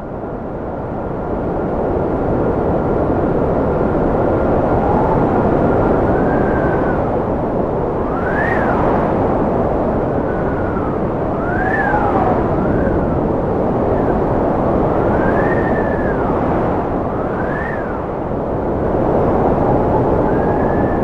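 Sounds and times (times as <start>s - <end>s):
strong wind whistling: 0.0s - 21.0s.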